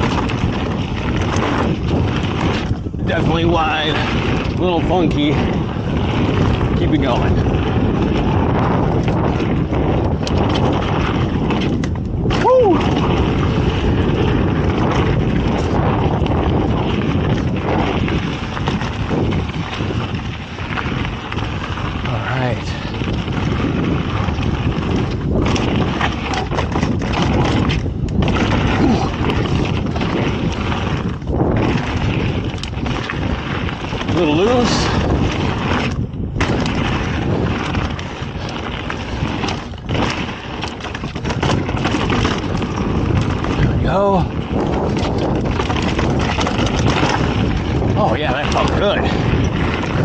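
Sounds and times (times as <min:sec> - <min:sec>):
bike clicks and rattles: 0:00.0 - 0:50.0
mountain bike rumbling on dirt: 0:00.0 - 0:50.0
wind buffeting microphone: 0:00.0 - 0:50.0.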